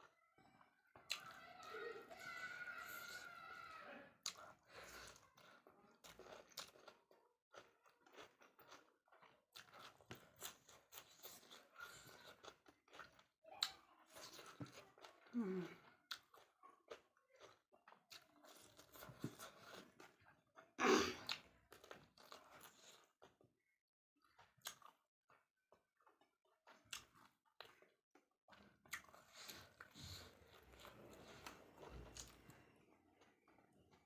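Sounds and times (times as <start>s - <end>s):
person chewing and crunching: 0.1s - 3.4s, 4.2s - 23.6s, 24.2s - 34.0s.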